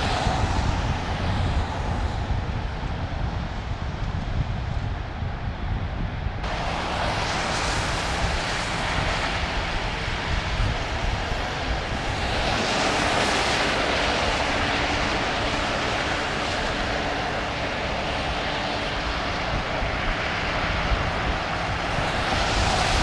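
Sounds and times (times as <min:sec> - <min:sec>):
tyres hissing on wet road: 0:00.0 - 0:02.2, 0:06.4 - 0:23.0
low traffic rumble: 0:00.0 - 0:23.0.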